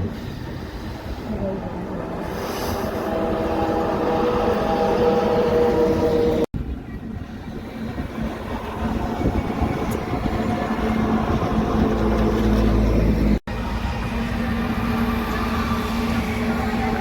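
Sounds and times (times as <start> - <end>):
heavy truck engine rumble: 0.0 - 17.0.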